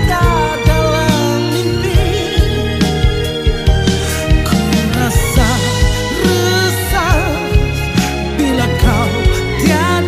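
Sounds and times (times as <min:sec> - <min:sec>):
person singing: 0:00.0 - 0:10.0
pop-rock band music: 0:00.0 - 0:10.0.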